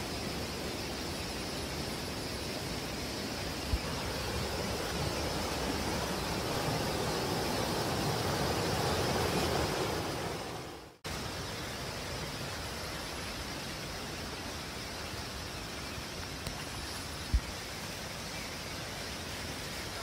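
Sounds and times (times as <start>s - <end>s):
stream cascade rushing: 0.0s - 20.0s.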